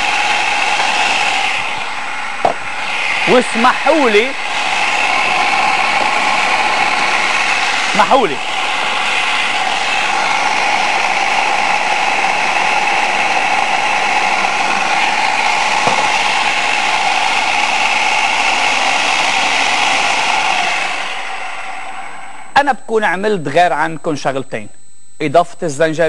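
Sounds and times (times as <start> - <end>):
food processor chopping: 0.0 - 22.0.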